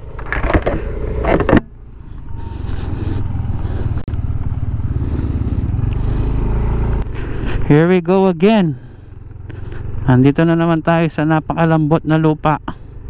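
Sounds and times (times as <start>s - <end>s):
small motorcycle engine: 0.0s - 13.0s.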